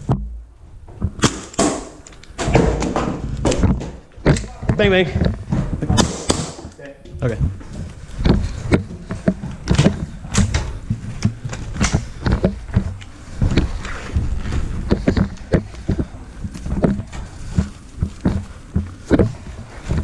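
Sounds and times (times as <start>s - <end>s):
irregular knocks and thumps: 0.0s - 20.0s.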